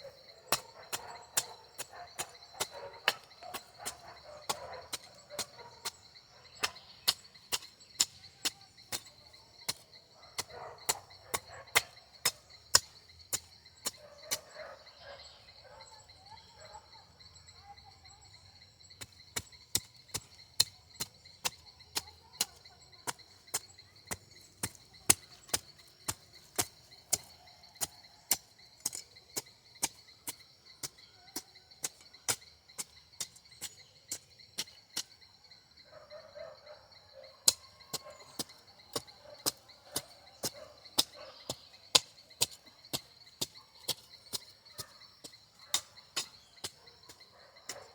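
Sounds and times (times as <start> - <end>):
crickets chirring: 0.0 - 47.9
garden tool chopping into soil: 0.5 - 14.5, 19.0 - 35.2, 37.4 - 47.9.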